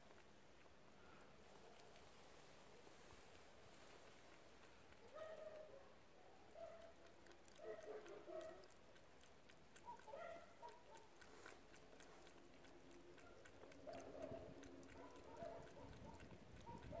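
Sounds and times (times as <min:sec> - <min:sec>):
cat lapping water: 0:00.0 - 0:17.0.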